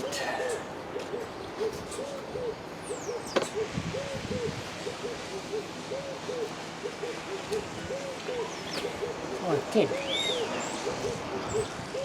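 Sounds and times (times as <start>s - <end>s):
bird hooting: 0.2s - 12.0s.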